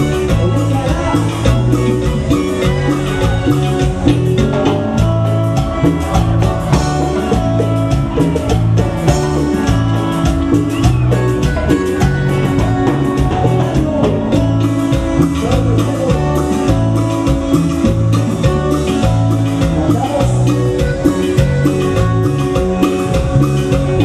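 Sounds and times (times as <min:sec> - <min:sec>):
live cumbia band playing: 0:00.0 - 0:24.0.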